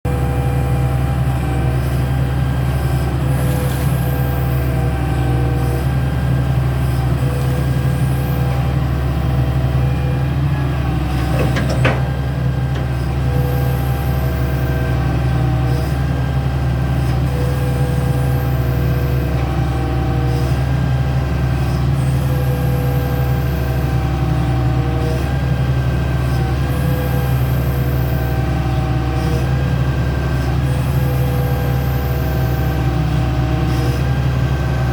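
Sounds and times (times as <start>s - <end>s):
diesel engine running: 0.0s - 34.9s
hydraulic whine: 0.1s - 34.9s.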